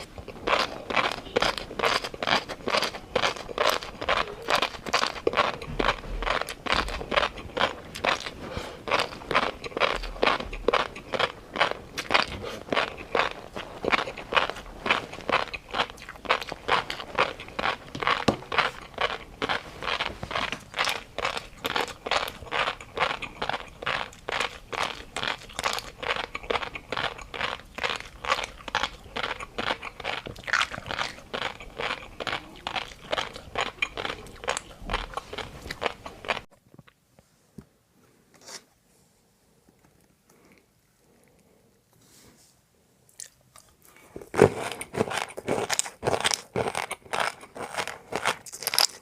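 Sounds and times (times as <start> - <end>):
crunchy chewing: 0.0 - 37.0, 43.1 - 49.0.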